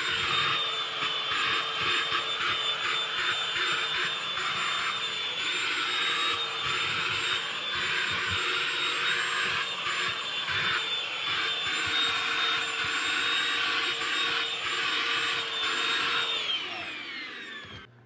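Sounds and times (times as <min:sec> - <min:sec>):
vacuum motor whine: 0:00.0 - 0:18.0.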